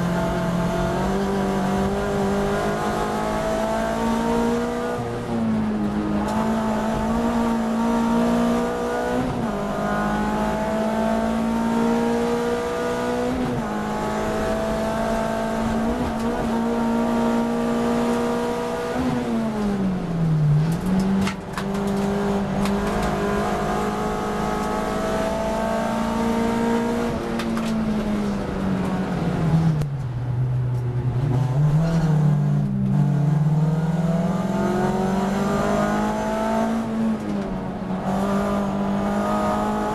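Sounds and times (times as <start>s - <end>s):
racing car engine revving: 0.0s - 30.1s, 30.8s - 39.9s.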